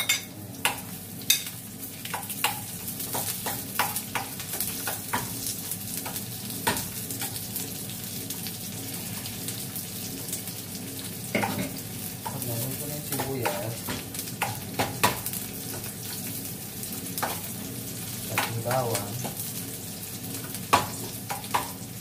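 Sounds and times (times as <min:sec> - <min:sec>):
onion and garlic sizzling in a pan: 0:00.0 - 0:22.0.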